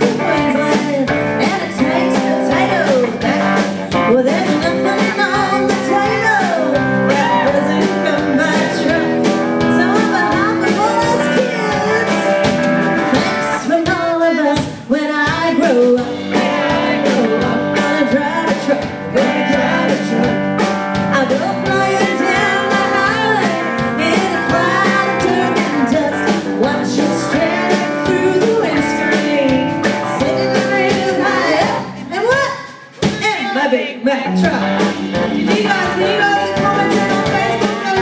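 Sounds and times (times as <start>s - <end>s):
woman singing into a microphone: 0.0s - 12.4s, 13.1s - 20.5s, 21.1s - 38.0s
live band playing: 0.0s - 38.0s.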